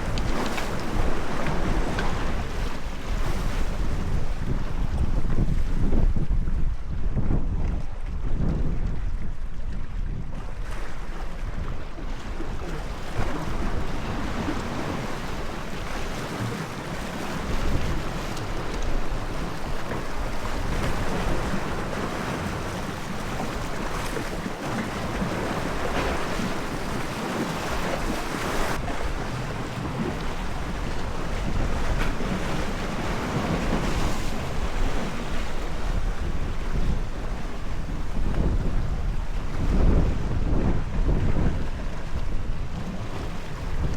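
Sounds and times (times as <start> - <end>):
sea waves washing on shore: 0.0 - 7.0, 9.1 - 43.9
wind buffeting microphone: 0.0 - 43.9.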